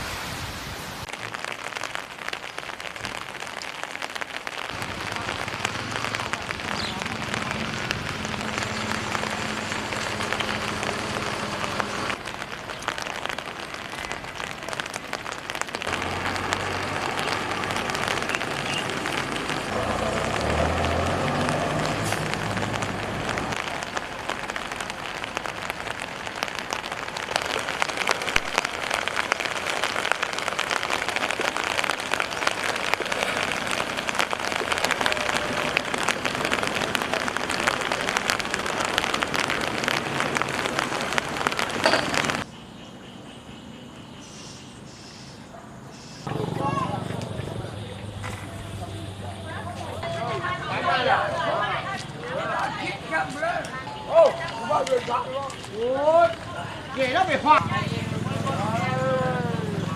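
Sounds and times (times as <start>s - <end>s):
heavy rain pouring: 0.0s - 42.5s, 46.2s - 59.9s.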